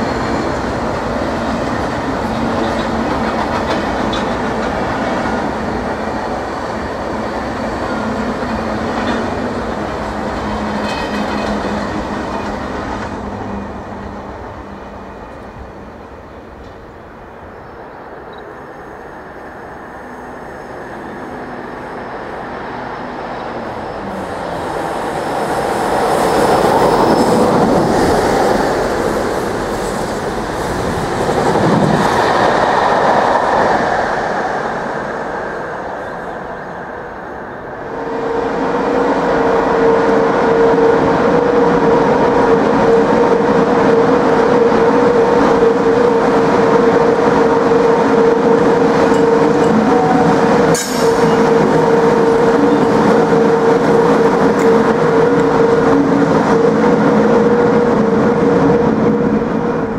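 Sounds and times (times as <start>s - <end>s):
passenger coaches rolling past: 0.0s - 59.9s.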